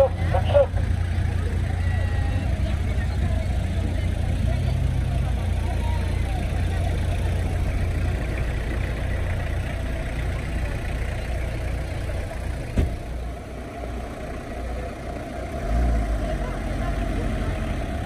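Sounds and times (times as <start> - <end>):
rally cars idling: 0.0 - 18.0.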